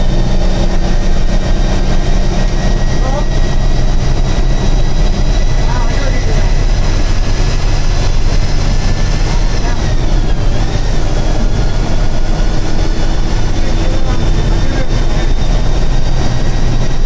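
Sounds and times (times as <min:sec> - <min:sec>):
bus diesel engine rumble: 0:00.0 - 0:17.0
high whine: 0:00.0 - 0:17.0
road noise: 0:00.0 - 0:17.0.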